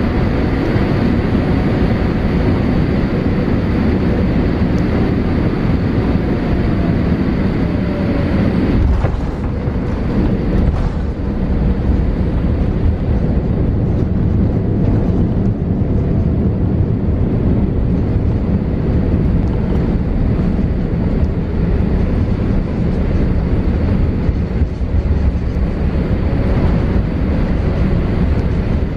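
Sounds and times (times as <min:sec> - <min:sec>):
airplane cabin low rumble: 0:00.0 - 0:28.9
faint engine whine: 0:00.0 - 0:28.9.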